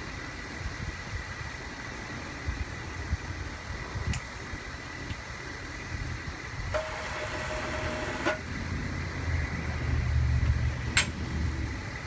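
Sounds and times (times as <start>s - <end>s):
engine idling rumble: 0.0s - 12.0s.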